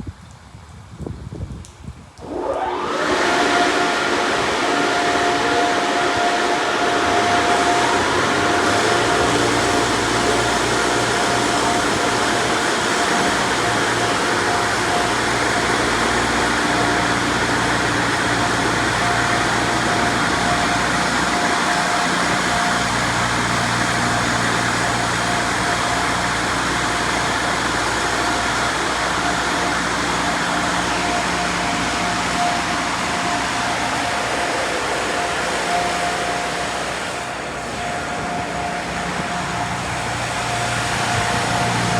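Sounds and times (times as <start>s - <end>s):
car wash machine rushing: 2.2s - 41.9s.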